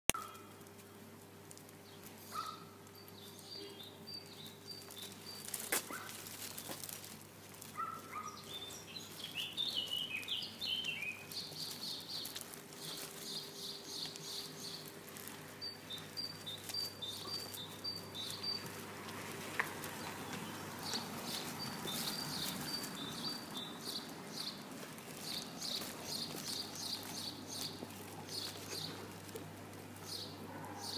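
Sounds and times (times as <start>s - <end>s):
small birds chirping: 1.6s - 30.9s.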